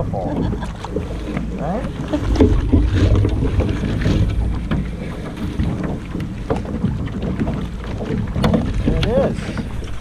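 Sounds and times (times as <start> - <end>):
wind buffeting microphone: 0.0 - 10.0
light knocks and rattles: 0.5 - 10.0.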